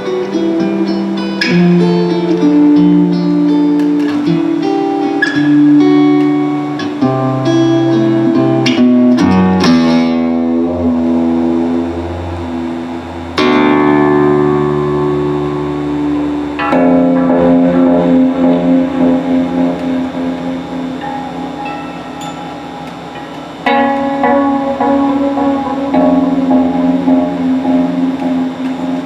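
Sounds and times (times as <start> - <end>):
guitar plucked and strummed: 0.0 - 29.0.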